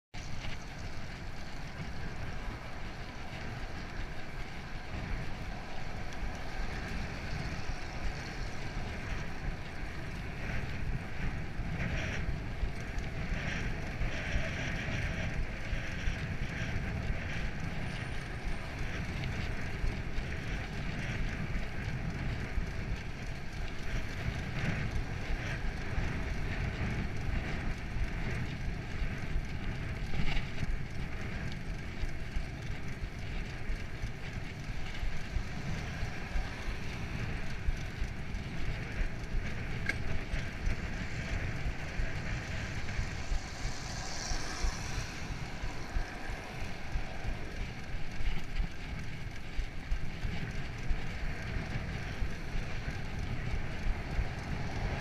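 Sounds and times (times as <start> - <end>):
bicycle tyres rolling on asphalt: 0.1 - 55.0
wind rushing over microphone: 0.1 - 55.0.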